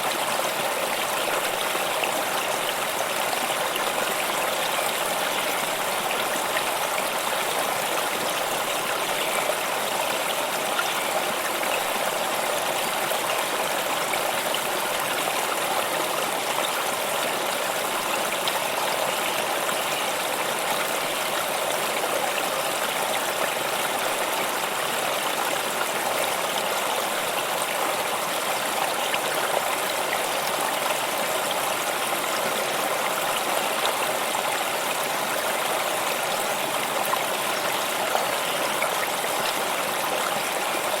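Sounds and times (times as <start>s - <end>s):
stream babbling: 0.0s - 41.0s.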